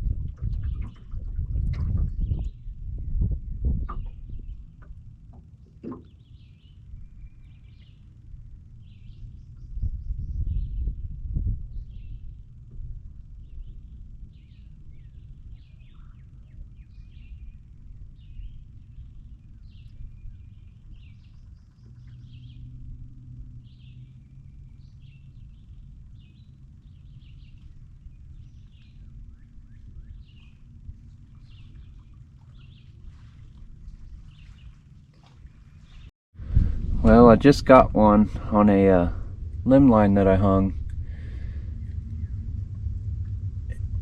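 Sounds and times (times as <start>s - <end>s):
low outdoor rumble: 0.0s - 44.0s
songbirds chirping: 0.4s - 36.1s, 37.0s - 42.8s.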